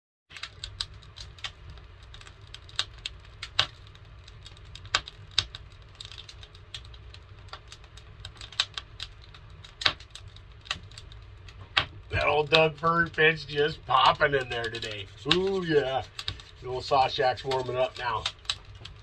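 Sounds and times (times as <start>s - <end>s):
wood fire crackling and popping: 0.3s - 19.0s
low steady rumble: 0.4s - 19.0s.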